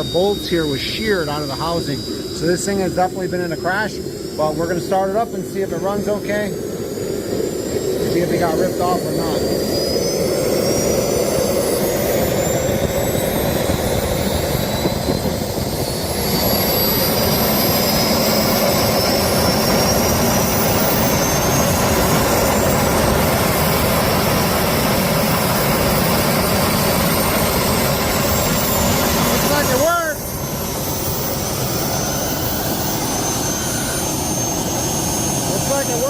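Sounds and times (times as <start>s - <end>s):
jet engine running: 0.0s - 36.0s.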